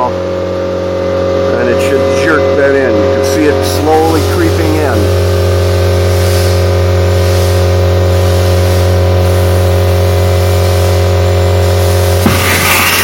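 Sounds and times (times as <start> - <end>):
industrial vacuum humming: 0.0 - 13.0.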